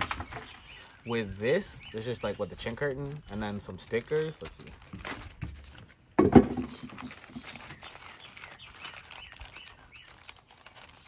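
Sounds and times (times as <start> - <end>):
paper and plastic packaging rustling: 0.0 - 11.0.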